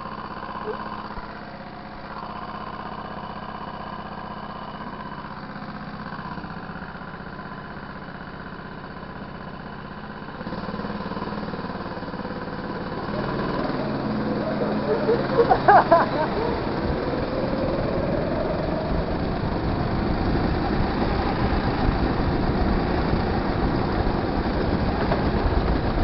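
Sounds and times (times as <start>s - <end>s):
go-kart engine running: 0.0s - 26.0s.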